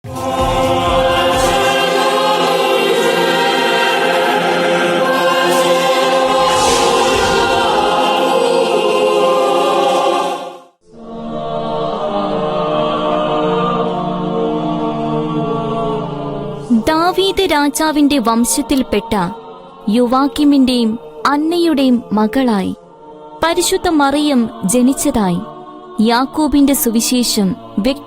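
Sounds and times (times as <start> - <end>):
choir singing sustained chords: 0.0 - 28.0.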